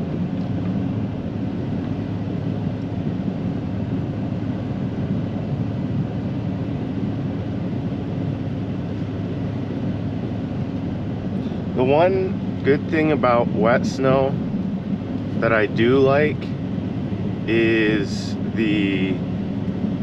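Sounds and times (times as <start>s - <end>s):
snowplow truck droning: 0.0s - 20.0s.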